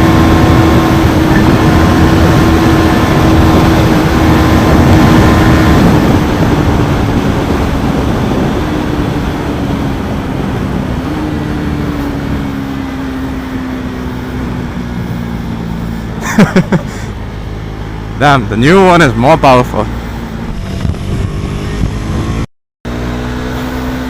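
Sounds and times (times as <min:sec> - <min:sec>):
motorcycle engine running hard: 0:00.0 - 0:24.0
wind and road noise: 0:00.0 - 0:24.0.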